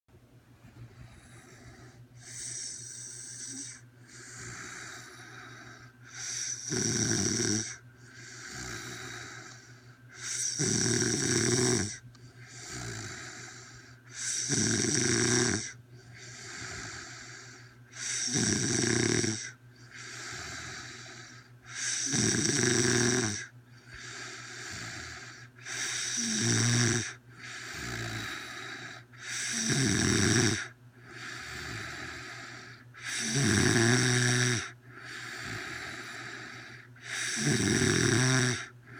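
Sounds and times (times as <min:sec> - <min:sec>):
woman snoring loudly: 0:01.4 - 0:09.6, 0:10.2 - 0:17.4, 0:18.0 - 0:38.7.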